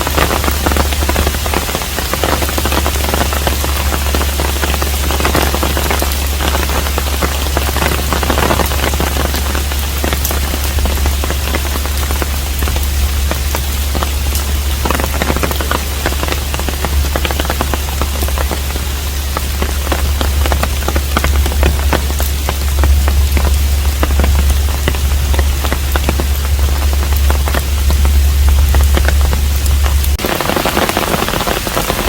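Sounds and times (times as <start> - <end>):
rain drops striking close by: 0.0 - 32.0
steady low hum: 0.0 - 32.0.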